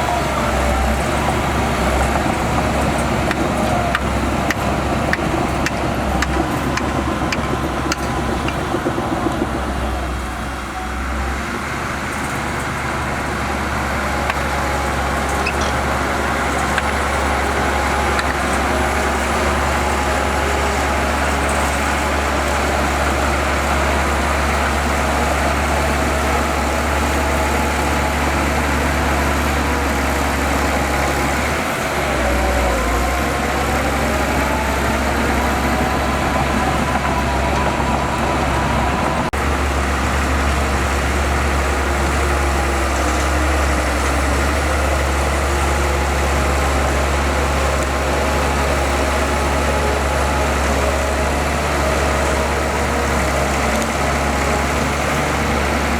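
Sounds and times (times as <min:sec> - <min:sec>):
heavy machinery diesel engine running: 0:00.0 - 0:55.9.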